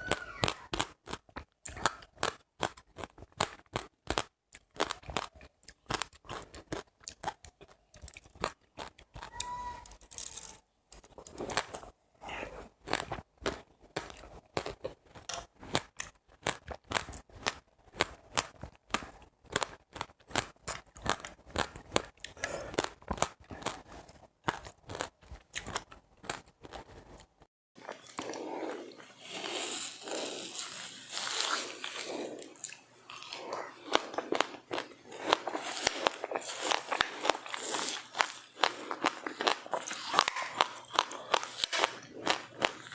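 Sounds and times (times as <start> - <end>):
chewing crunchy seeds: 0.0 - 42.9.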